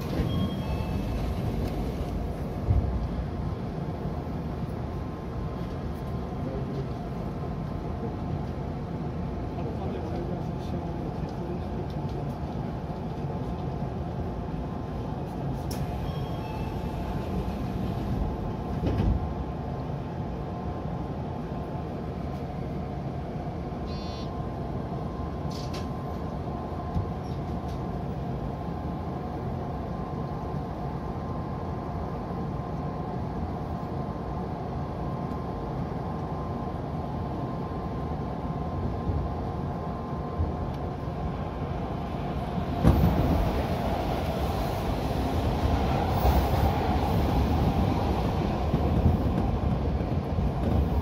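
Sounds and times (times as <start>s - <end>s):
oncoming train passing: 0.0s - 51.0s
train running gear rumble: 0.0s - 51.0s.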